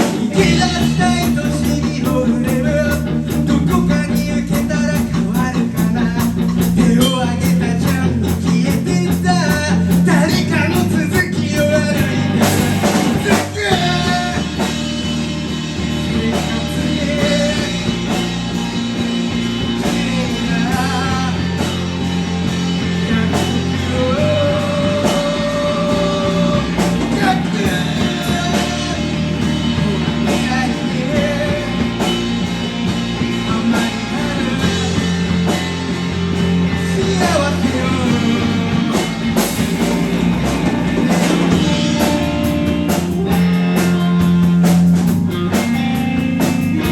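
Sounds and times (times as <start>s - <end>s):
person singing: 0.0s - 15.0s, 16.0s - 18.4s, 19.6s - 21.9s, 22.8s - 32.4s, 33.3s - 35.6s, 36.7s - 39.6s, 40.8s - 44.7s
guitar: 0.0s - 46.9s
rock band playing: 0.0s - 46.9s.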